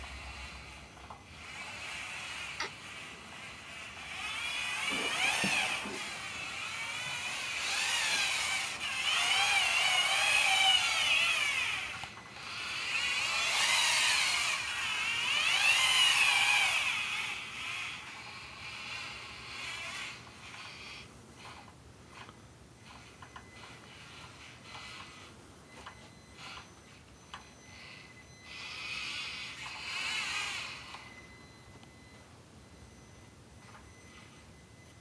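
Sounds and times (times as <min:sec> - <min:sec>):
electric gear motors whining: 0:00.0 - 0:32.1.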